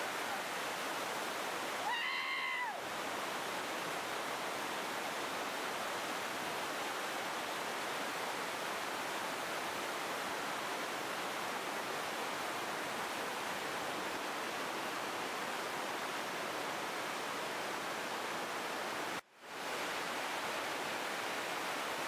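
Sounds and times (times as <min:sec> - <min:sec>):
whitewater rapids roaring: 0:00.0 - 0:18.5.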